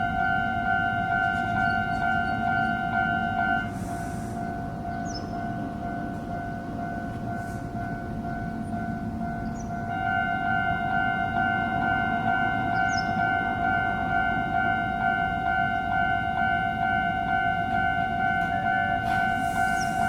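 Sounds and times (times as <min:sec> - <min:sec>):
level crossing warning bell: 0:00.0 - 0:20.0
train passing with low rumble: 0:00.0 - 0:20.0.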